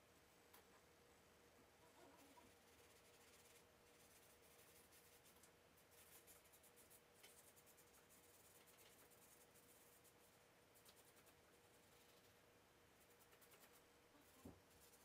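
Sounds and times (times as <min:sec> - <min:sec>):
thin steady hum: 0:00.0 - 0:15.0
charcoal scratching on paper: 0:02.2 - 0:12.4, 0:13.0 - 0:15.0.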